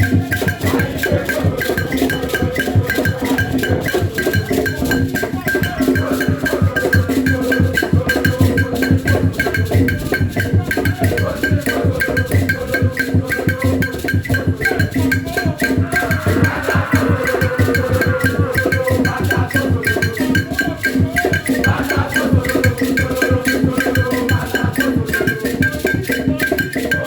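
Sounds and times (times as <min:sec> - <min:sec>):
drums: 0:00.0 - 0:27.0
woodblock-like clicks: 0:00.0 - 0:27.0.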